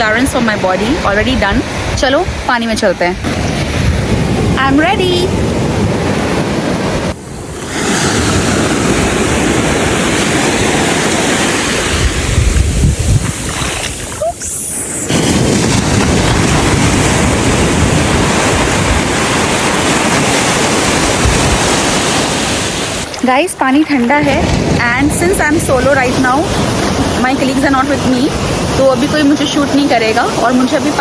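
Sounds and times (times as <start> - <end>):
wind buffeting microphone: 0.0 - 31.0
surf washing onto beach: 3.2 - 31.0.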